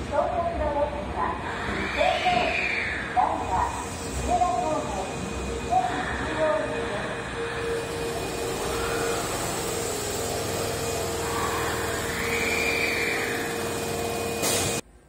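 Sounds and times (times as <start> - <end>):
subway train braking to stop: 1.0 - 14.9.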